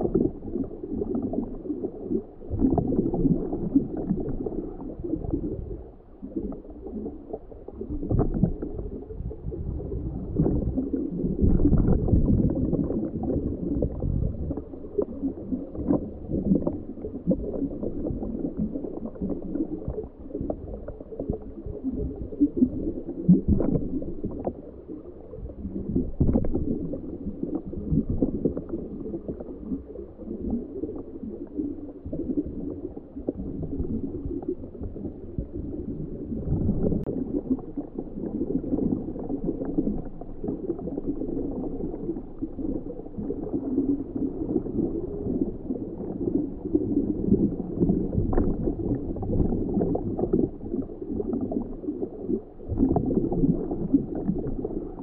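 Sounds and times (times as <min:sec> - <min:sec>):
underwater gurgling and rumbling: 0:00.0 - 0:55.0.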